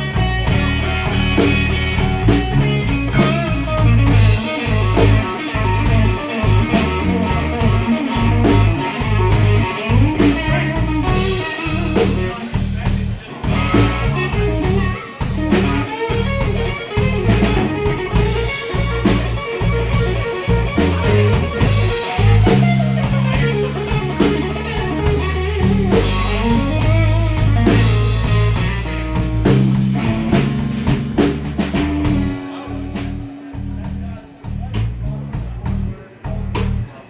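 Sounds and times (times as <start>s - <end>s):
bass guitar: 0.0s - 37.0s
drum kit: 0.0s - 37.0s
electric guitar: 0.0s - 37.0s.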